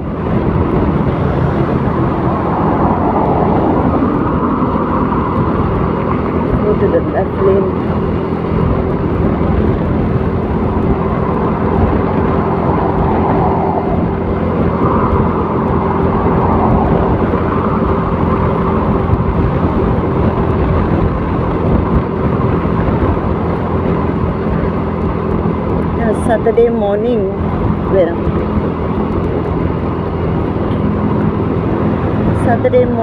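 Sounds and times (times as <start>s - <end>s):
scooter engine hum: 0.0s - 33.0s
wind and road noise: 0.0s - 33.0s.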